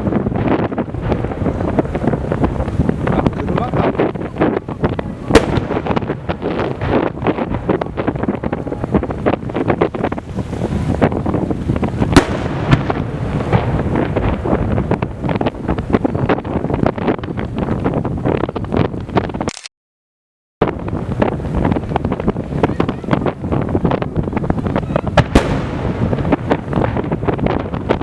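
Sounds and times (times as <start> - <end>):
sharp fireworks bangs: 0.0 - 19.0, 20.6 - 28.0
fireworks crackling barrage: 0.0 - 19.4, 20.6 - 28.0.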